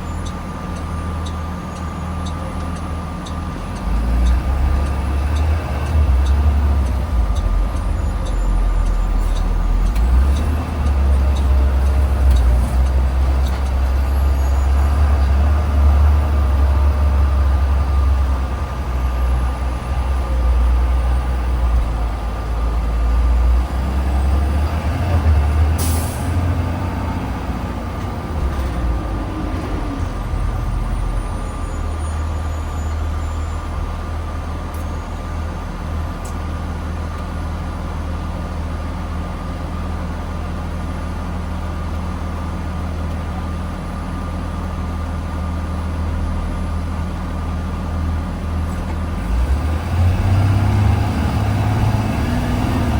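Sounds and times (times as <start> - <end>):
bus engine and road rumble: 0.0 - 52.9.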